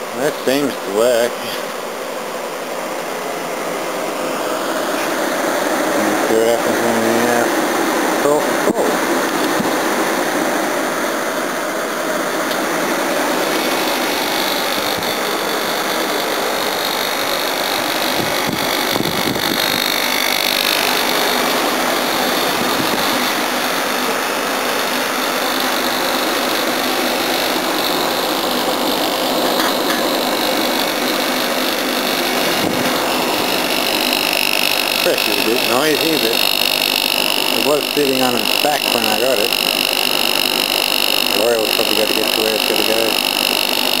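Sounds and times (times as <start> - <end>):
air conditioner running: 0.0 - 44.0.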